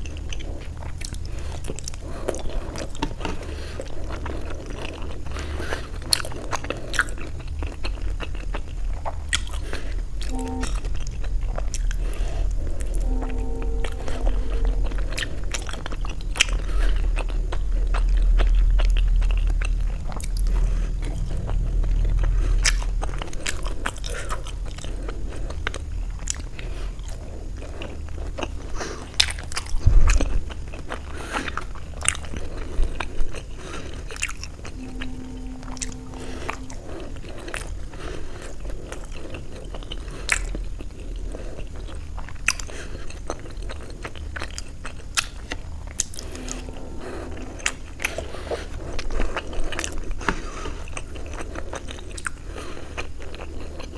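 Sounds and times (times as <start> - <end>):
chewing and biting: 0.0 - 13.8, 14.4 - 53.9.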